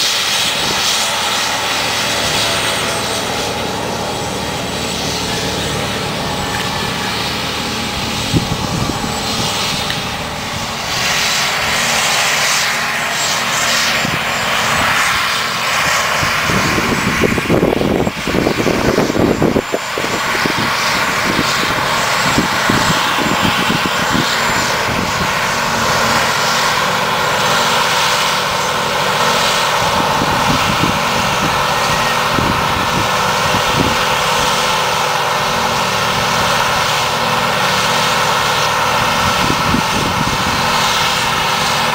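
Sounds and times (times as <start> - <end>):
diesel engines droning under load: 0.0 - 41.9
hiss over engine drone: 0.0 - 41.9.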